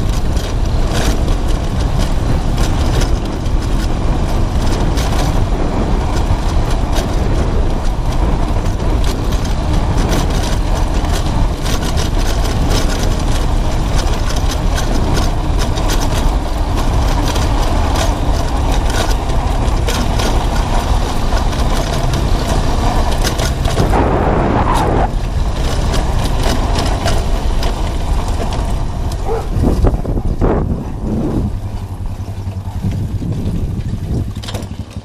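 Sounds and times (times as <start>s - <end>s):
motorcycle engine running: 0.0s - 35.0s
wind buffeting microphone: 0.0s - 35.0s.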